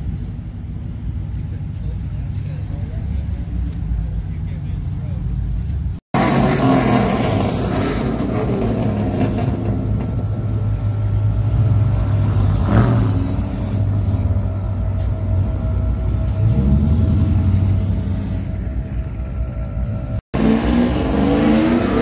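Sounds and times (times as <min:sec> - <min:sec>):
truck engine deep exhaust rumble: 0:00.0 - 0:22.0.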